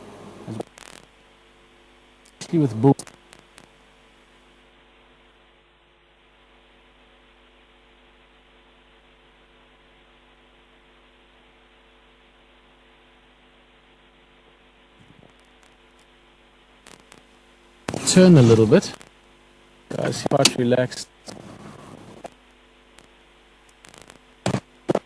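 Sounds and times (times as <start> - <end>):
faint electrical hum with hiss: 0.0 - 25.0.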